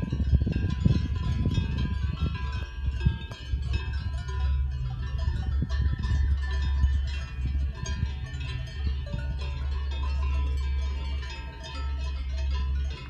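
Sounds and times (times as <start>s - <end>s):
cowbells clanking: 0.0s - 13.0s
steady low rumble: 0.0s - 13.0s.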